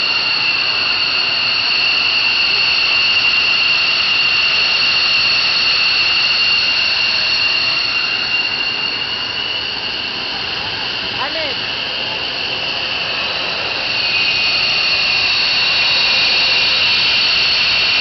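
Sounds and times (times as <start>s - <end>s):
jet engine turbine whine: 0.0s - 18.0s
rushing hiss: 0.0s - 18.0s.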